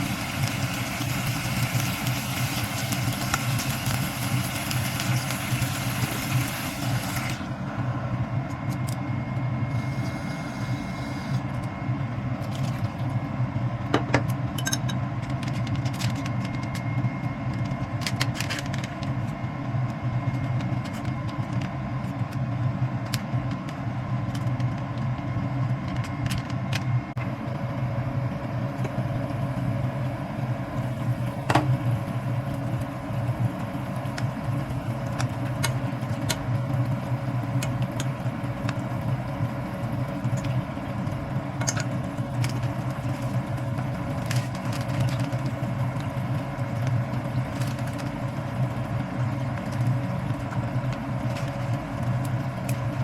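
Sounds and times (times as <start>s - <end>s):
steady low motor hum: 0.0s - 53.0s.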